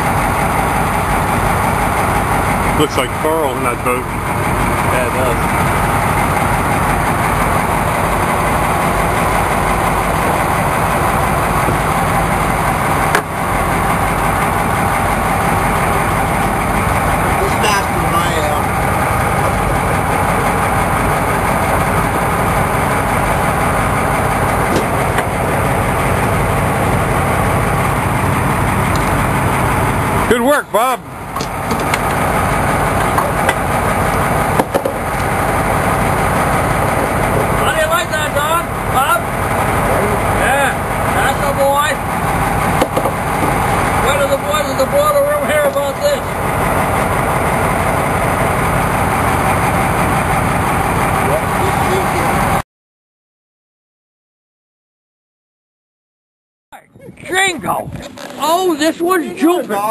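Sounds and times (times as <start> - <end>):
boat engine running: 0.0 - 52.6, 56.8 - 59.9.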